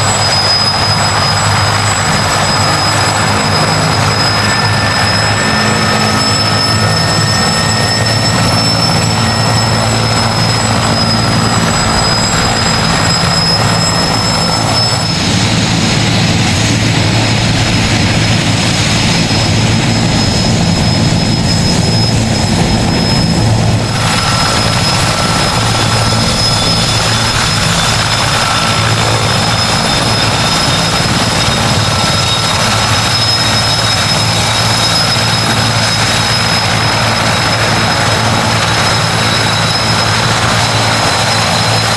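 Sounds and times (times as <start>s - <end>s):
helicopter engine whine: 0.0s - 41.9s
helicopter rotor hum: 0.0s - 41.9s.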